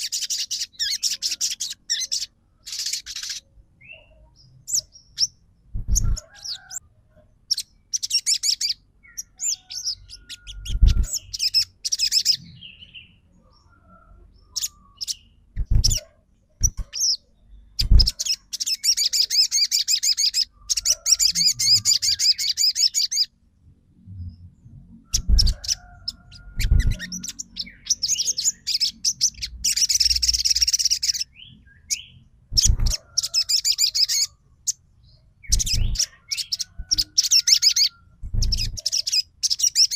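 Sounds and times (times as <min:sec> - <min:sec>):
songbird chattering trills: 0:00.0 - 0:06.8, 0:07.5 - 0:12.8, 0:16.6 - 0:23.3, 0:25.2 - 0:34.8, 0:35.4 - 0:39.9.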